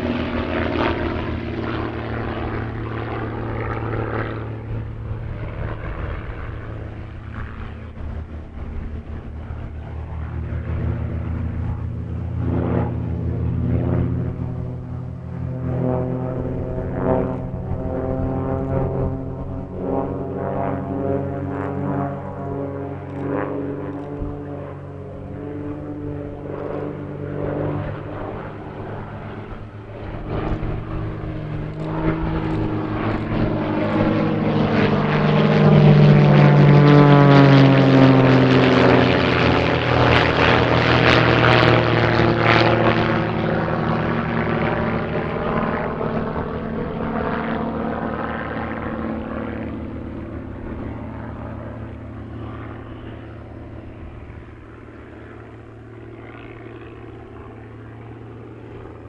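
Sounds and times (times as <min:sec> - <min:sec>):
propeller planes droning: 0:00.0 - 0:59.0.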